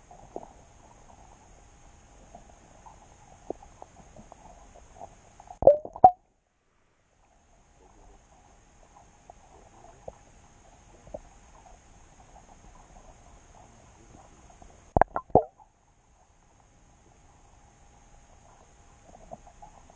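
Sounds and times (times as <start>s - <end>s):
faint underwater clicks: 0.0s - 6.3s, 7.2s - 19.9s.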